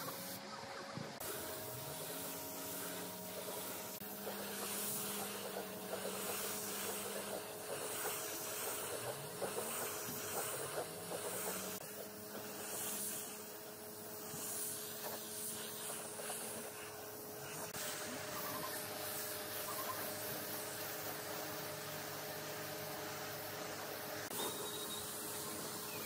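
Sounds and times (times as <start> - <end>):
steady low hum: 0.0 - 26.0
spray gun hissing: 1.2 - 26.0.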